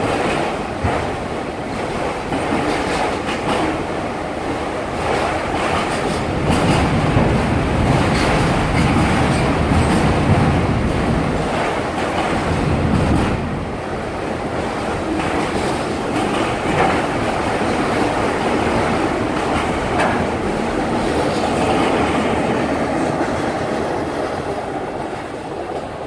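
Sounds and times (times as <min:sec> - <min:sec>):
freight train wheels rumbling on rails: 0:00.0 - 0:26.0
rail clacks: 0:00.0 - 0:26.0.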